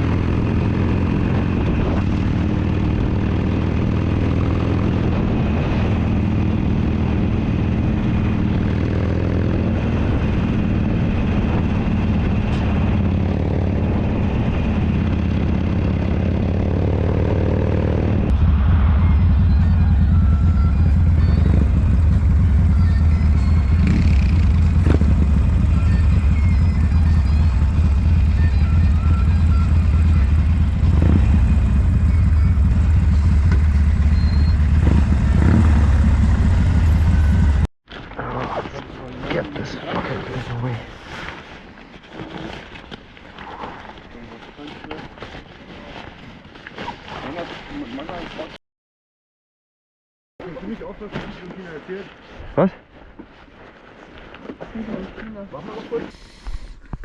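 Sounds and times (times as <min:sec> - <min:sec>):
motorcycle engine rumbling: 0:00.0 - 0:45.9.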